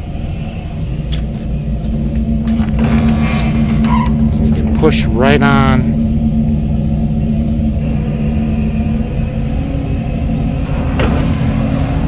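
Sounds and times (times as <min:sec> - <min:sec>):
boat engines rumbling: 0:00.0 - 0:12.0.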